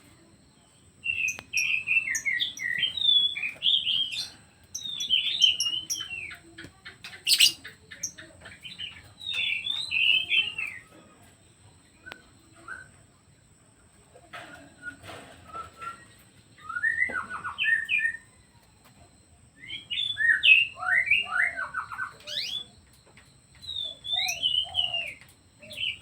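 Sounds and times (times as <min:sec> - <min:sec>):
songbird singing: 0:00.0 - 0:26.0.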